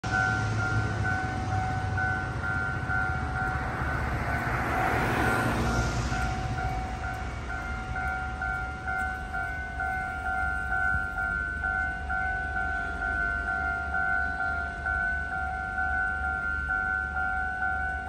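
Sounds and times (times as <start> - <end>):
level-crossing warning bell: 0.0 - 18.0
train passing: 0.0 - 18.0.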